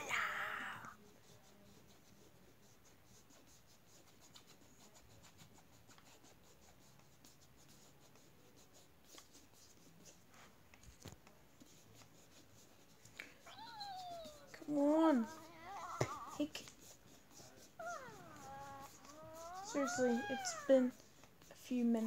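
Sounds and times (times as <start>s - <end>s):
hand scratching plastic toy egg: 0.0s - 22.0s.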